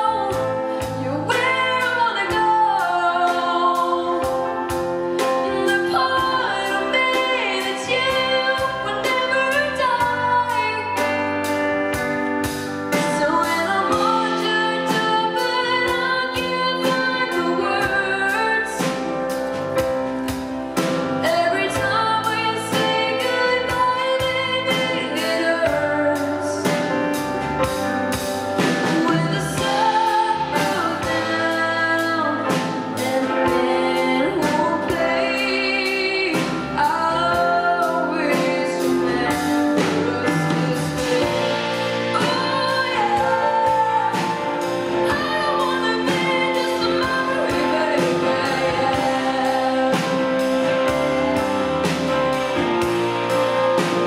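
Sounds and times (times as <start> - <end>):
woman singing into microphone: 0.0 - 12.3, 12.9 - 19.4, 20.3 - 27.2, 28.6 - 51.5
band playing: 0.0 - 54.0
drum kit steady beat: 0.0 - 54.0.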